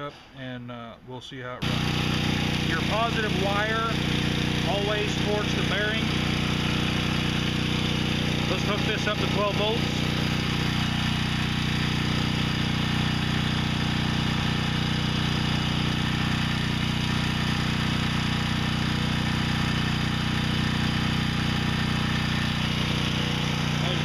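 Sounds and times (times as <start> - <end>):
generator engine running: 1.6 - 24.0.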